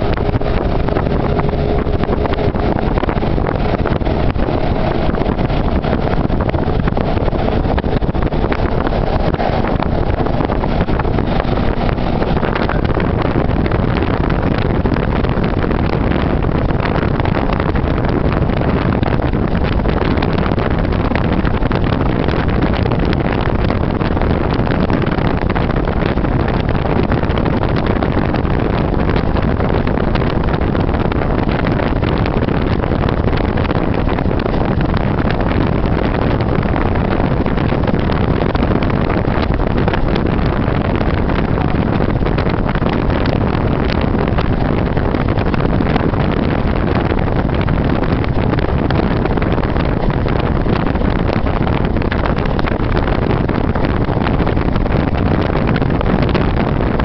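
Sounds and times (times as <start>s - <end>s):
steady low broadband noise: 0.0s - 57.0s.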